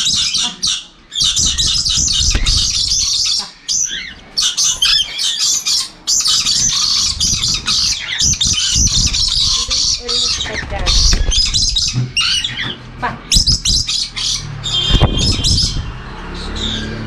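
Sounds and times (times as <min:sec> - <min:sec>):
parrots squawking: 0:00.0 - 0:17.0.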